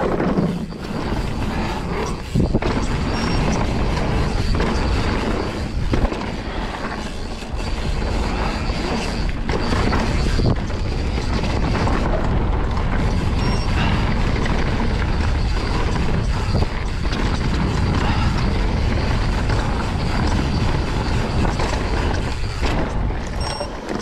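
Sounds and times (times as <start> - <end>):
bike rattling: 0.0 - 24.0
tyres rolling over dirt: 0.0 - 24.0
wind rush on microphone: 0.0 - 24.0.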